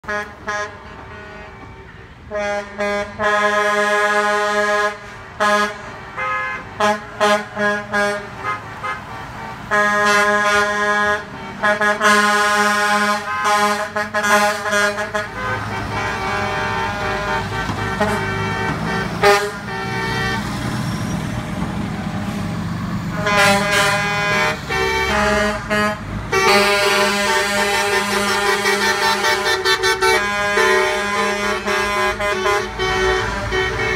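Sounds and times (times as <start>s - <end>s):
diesel engines rumbling: 0.0s - 33.9s
truck air horns blasting: 0.0s - 33.9s.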